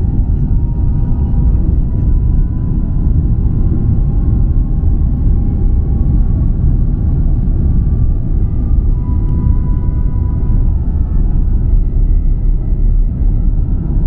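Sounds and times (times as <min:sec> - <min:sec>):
faint engine whine: 0:00.0 - 0:14.0
jet engines rumbling: 0:00.0 - 0:14.0.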